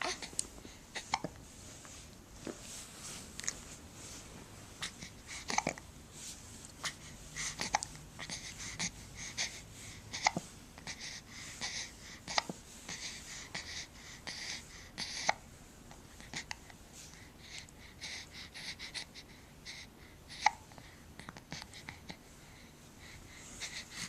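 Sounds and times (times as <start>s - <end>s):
soft breathing: 0.0s - 24.0s.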